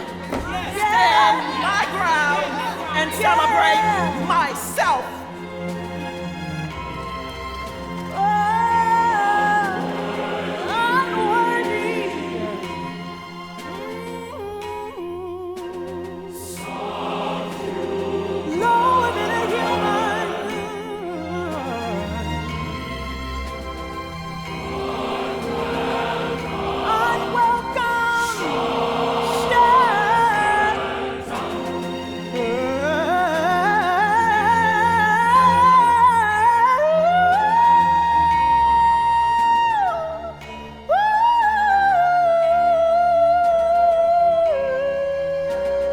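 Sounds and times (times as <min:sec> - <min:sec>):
choir with orchestra: 0:00.0 - 0:45.9.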